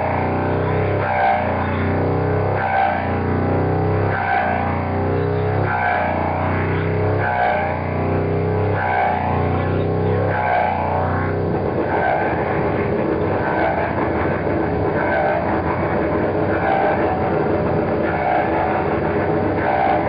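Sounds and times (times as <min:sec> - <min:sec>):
low drone: 0:00.0 - 0:20.0
rough wall of noise: 0:00.0 - 0:20.0.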